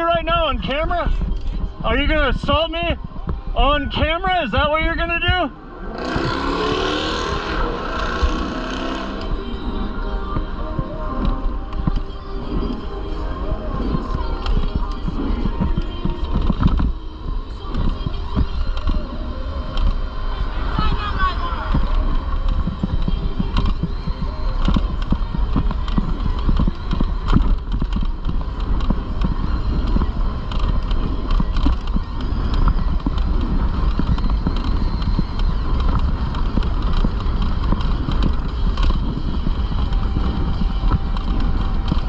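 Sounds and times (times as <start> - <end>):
road noise from bicycle: 0.0 - 42.0
wind rumble on microphone: 0.0 - 42.0.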